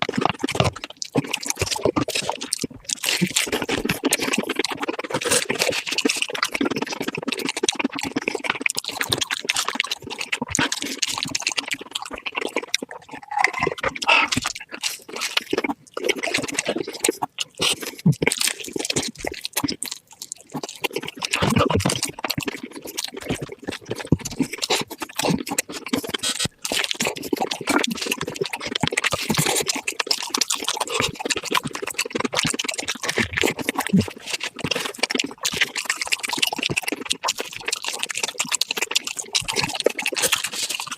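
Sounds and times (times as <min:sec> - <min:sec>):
mouth clicks: 0:00.0 - 0:40.9
rapid crunching and chewing: 0:00.0 - 0:40.9.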